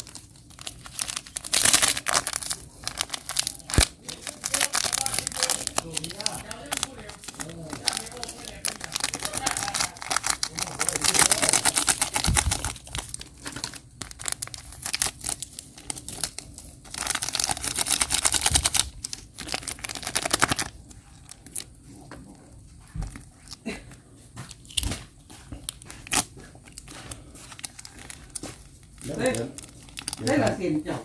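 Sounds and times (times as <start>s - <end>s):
plastic packet tearing open: 0.0s - 21.8s, 25.6s - 30.6s
plastic packets crinkling: 0.0s - 23.9s, 24.5s - 31.0s.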